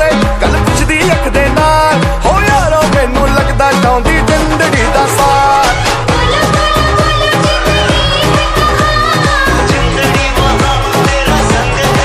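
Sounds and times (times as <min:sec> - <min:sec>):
pop song with male vocals: 0:00.0 - 0:12.0.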